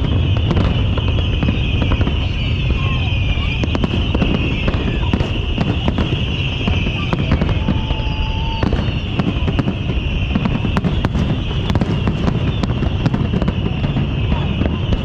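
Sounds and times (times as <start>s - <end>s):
firework whistle: 0.0s - 15.0s
fireworks popping and crackling: 0.0s - 15.0s.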